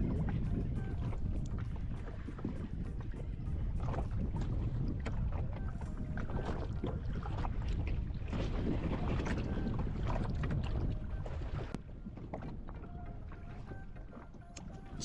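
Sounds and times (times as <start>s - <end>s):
water slapping against jet ski: 0.0s - 15.0s
wind buffeting microphone: 0.0s - 15.0s.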